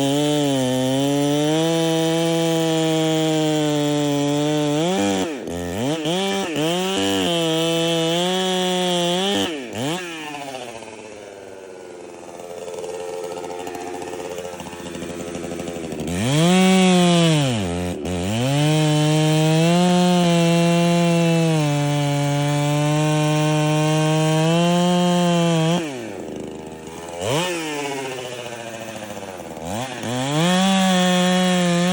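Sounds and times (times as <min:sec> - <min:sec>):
chainsaw cutting wood: 0:00.0 - 0:31.9
chainsaw idling and revving: 0:00.0 - 0:31.9.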